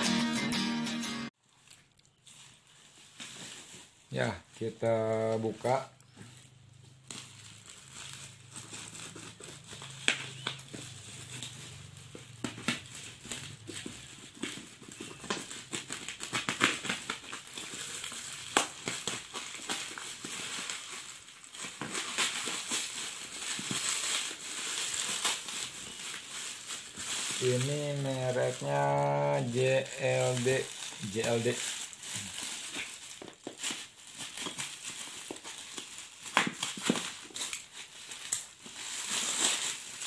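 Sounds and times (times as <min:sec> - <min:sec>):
plastic wrapping crinkling: 0:01.4 - 0:40.0
scissors cutting plastic: 0:06.9 - 0:28.8, 0:29.5 - 0:40.0.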